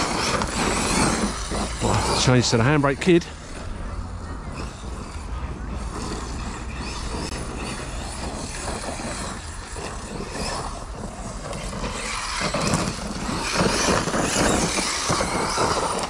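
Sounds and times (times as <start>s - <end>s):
radio-controlled car motor: 0.0s - 16.0s
tyres on dirt: 0.0s - 16.0s.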